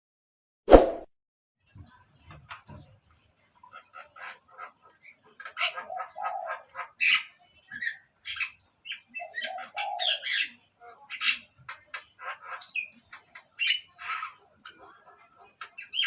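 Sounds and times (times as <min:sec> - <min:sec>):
songbirds chirping: 0:01.6 - 0:16.0.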